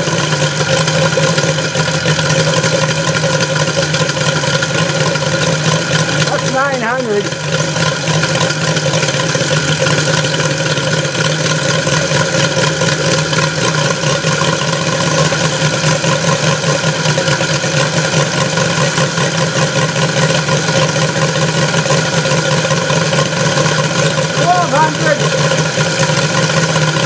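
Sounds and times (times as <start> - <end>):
model aircraft engine idling: 0.0 - 27.0.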